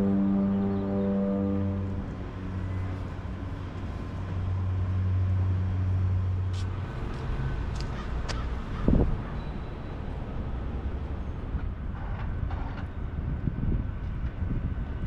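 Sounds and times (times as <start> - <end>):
road traffic engine hum: 0.0 - 15.0
street noise: 0.0 - 15.0.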